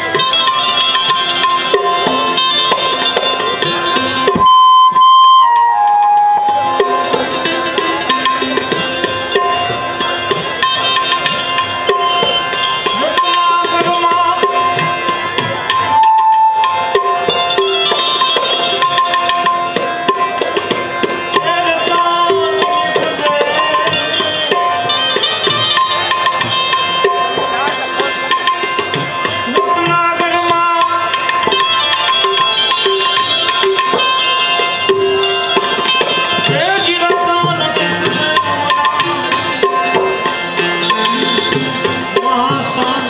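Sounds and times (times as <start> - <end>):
melodic instrumental line: 0.0 - 43.0
tabla playing: 0.0 - 43.0.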